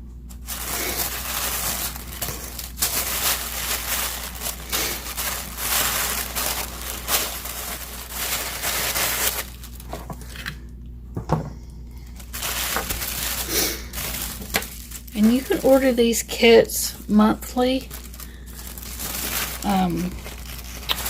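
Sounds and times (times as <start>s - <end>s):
packaging crinkling and rustling: 0.2s - 10.7s, 12.0s - 21.0s.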